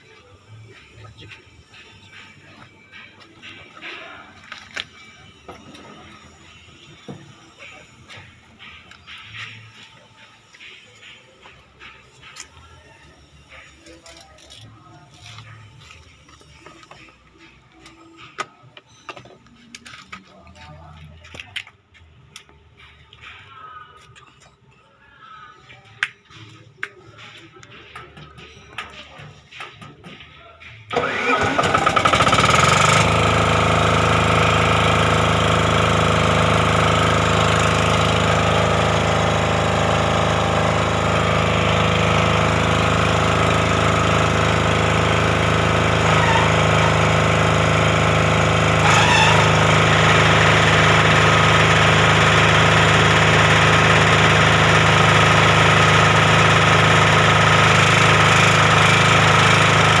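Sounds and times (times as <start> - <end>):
diesel generator running: 0.0 - 23.5, 30.8 - 60.0.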